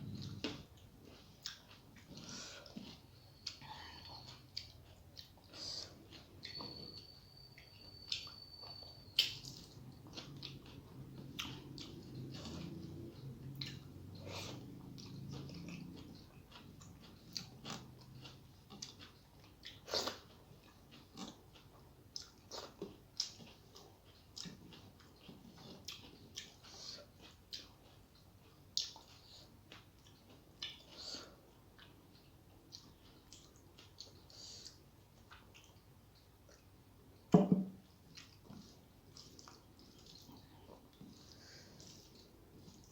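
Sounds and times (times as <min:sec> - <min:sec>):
person chewing food: 0:00.0 - 0:36.9, 0:37.8 - 0:42.9.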